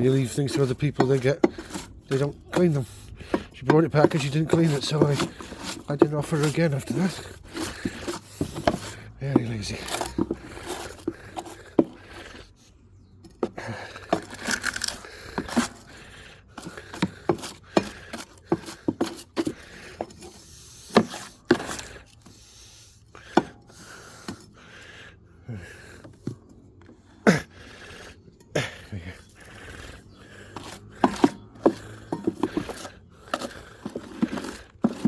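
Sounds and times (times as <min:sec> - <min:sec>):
scraping on lawnmower: 0:00.0 - 0:25.0, 0:25.6 - 0:35.0.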